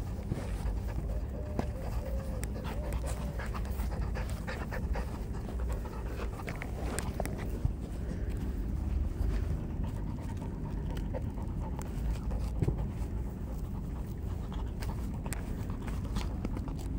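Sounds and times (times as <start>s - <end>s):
puppy panting: 0.0s - 16.9s.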